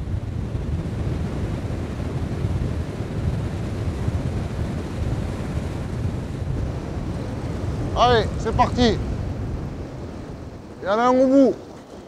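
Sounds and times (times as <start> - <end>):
surf washing on shore: 0.0 - 12.0
wind rumbling on microphone: 0.0 - 12.0.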